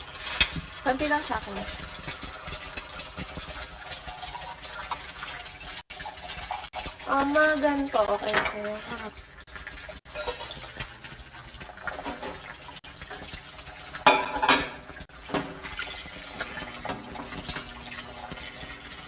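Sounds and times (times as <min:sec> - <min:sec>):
dishes and cutlery clinking: 0:00.0 - 0:05.2, 0:06.3 - 0:09.0, 0:09.6 - 0:18.7.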